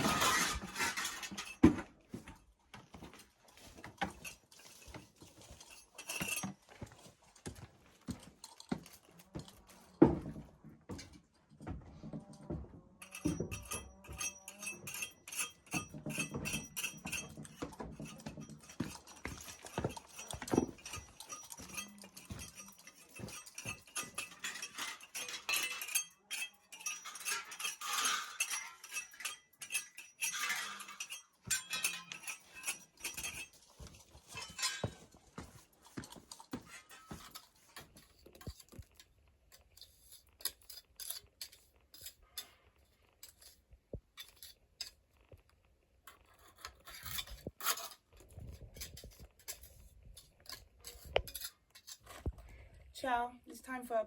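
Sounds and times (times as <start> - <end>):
trowel clinking on stone: 0.0 - 2.4, 3.2 - 10.2, 13.0 - 42.6, 43.2 - 45.1, 46.1 - 52.4.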